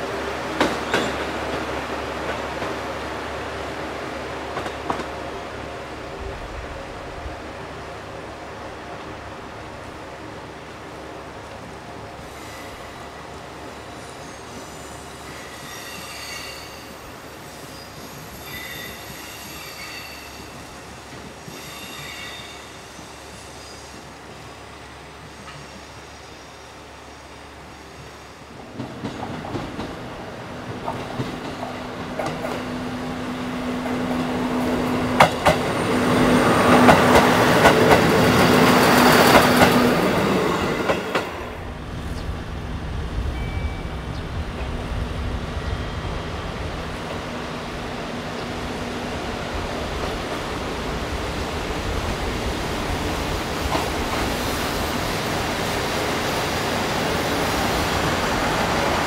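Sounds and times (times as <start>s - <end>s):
diesel railcar passing: 0.0s - 59.0s.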